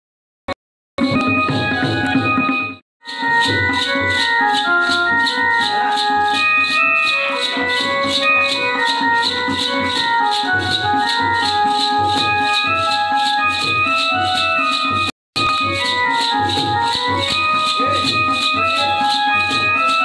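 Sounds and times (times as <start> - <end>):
electronic keyboard melody: 1.0 - 20.0
rhythm of ticks and beats: 1.0 - 20.0.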